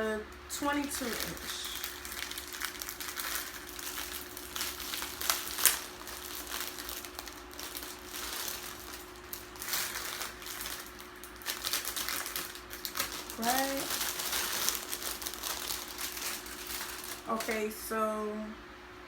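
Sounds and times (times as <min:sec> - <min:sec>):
fan humming: 0:00.0 - 0:19.0
packaging crinkling and rustling: 0:00.5 - 0:17.9.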